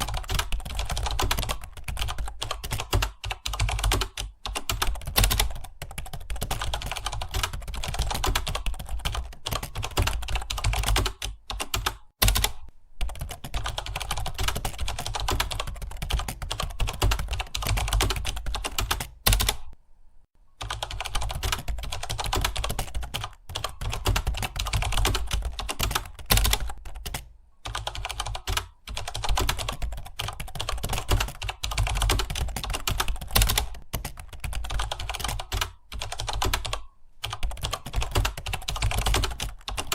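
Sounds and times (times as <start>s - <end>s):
fast keyboard typing: 0.0s - 19.8s, 20.6s - 39.9s.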